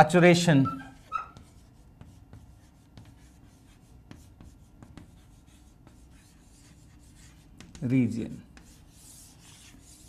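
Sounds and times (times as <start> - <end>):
chalk tapping and scratching: 0.8 - 10.0.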